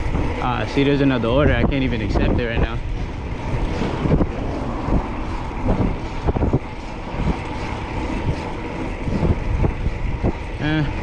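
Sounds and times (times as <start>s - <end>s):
passing city traffic: 0.0s - 11.0s
wind rumbling over microphone: 0.0s - 11.0s.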